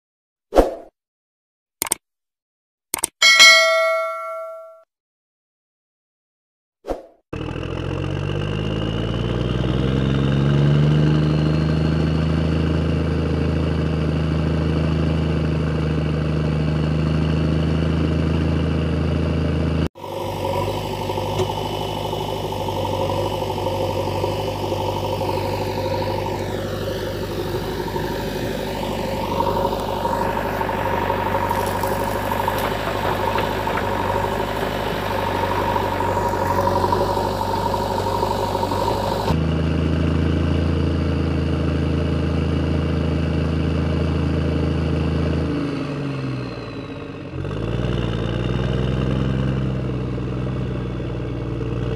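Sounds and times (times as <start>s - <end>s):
different engine running steadily: 7.4s - 51.9s
engine revving: 7.4s - 51.9s.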